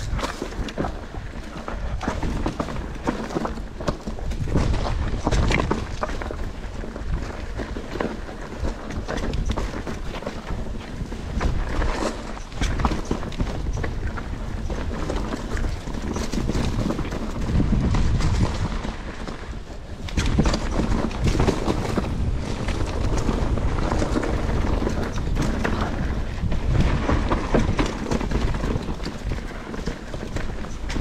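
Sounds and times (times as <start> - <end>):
bike clicks and knocks: 0.0 - 31.0
mountain bike rumbling and rattling: 0.0 - 31.0
wind buffeting microphone: 0.0 - 31.0.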